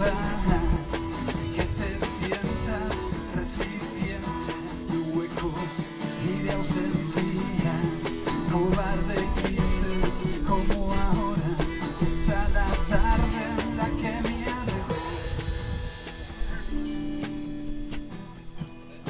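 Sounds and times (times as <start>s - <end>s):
acoustic guitar: 0.0s - 19.0s
drum kit cymbal beat: 0.0s - 19.0s
electric guitar: 0.0s - 19.0s.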